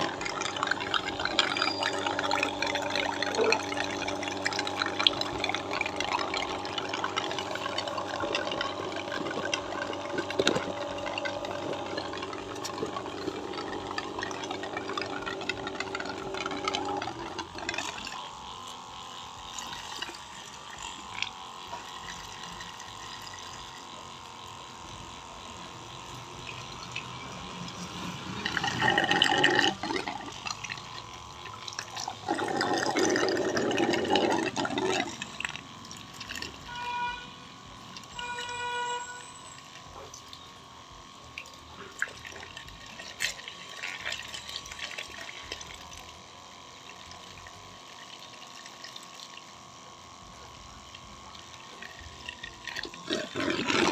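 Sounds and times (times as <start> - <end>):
sprayer pump motor humming: 0.0 - 53.9
water rushing through pump: 0.0 - 53.9.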